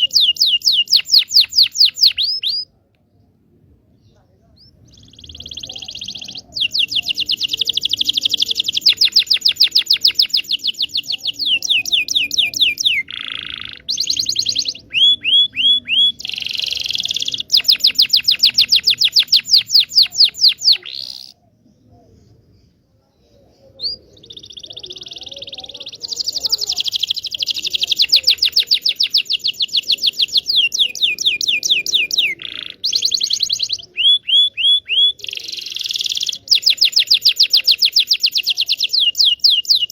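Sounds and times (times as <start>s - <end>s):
canary singing trills: 0.0s - 2.8s, 4.0s - 39.9s.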